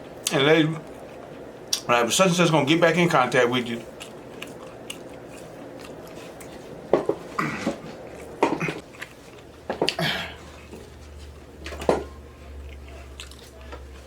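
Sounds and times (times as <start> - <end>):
person chewing food: 0.0 - 1.9, 3.8 - 14.0.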